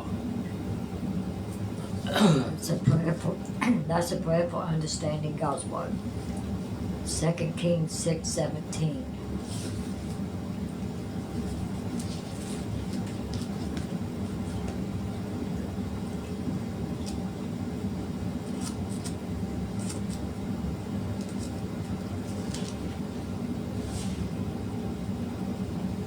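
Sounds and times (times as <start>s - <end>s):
low rumbling hum: 0.0s - 26.0s.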